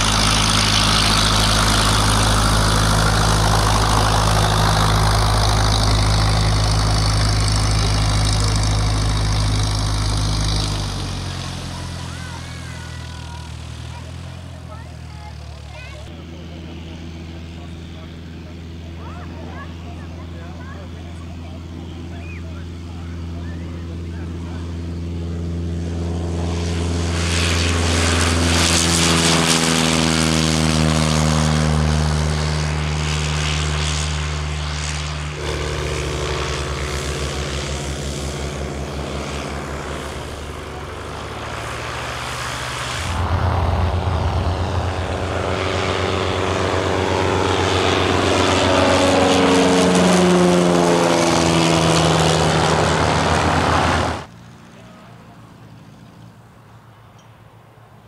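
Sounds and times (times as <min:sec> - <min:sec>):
propeller plane engine: 0:00.0 - 0:58.0.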